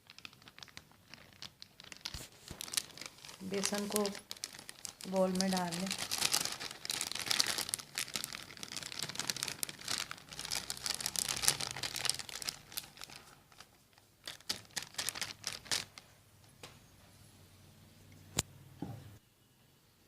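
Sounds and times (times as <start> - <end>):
plastic bag crinkling: 0.0 - 16.1.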